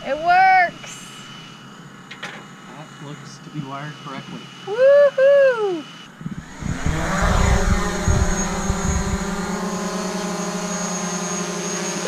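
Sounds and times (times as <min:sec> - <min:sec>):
drone propeller motors whining: 0:00.0 - 0:02.0, 0:03.7 - 0:12.0.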